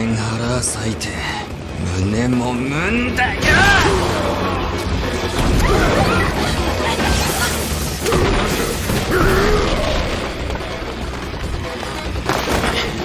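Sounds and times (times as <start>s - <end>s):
action soundtrack music: 0.0s - 13.0s.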